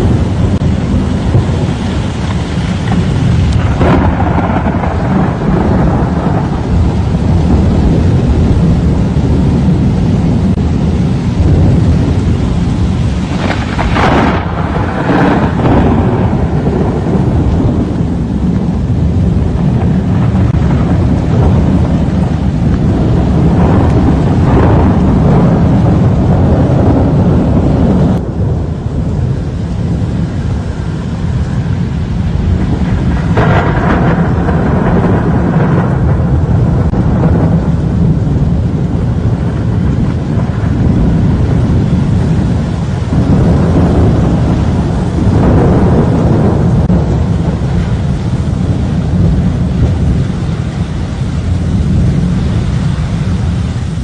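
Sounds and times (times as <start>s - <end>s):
heavy rain: 0.0s - 54.0s
low rumble of thunder: 0.0s - 54.0s
strong wind: 0.0s - 54.0s.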